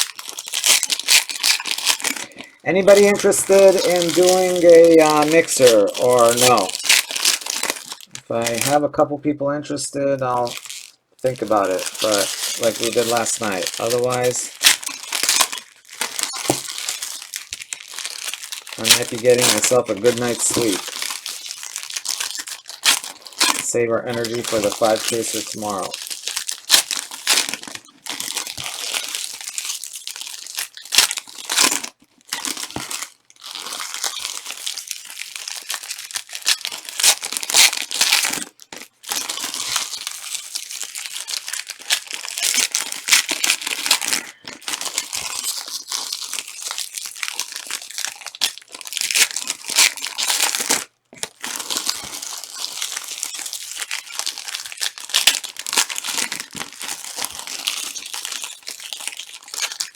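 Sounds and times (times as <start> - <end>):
wrappers crinkling and tearing: 0.0 - 8.9, 10.0 - 59.9.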